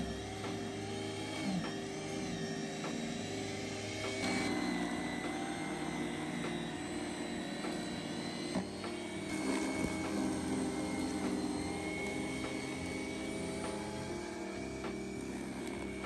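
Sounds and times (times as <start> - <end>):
electric snow shovel running: 0.0 - 16.0.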